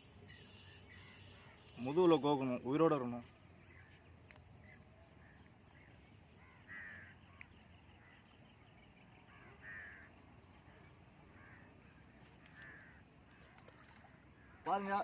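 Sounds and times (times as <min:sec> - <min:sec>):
harsh bird calls: 0:00.2 - 0:15.0.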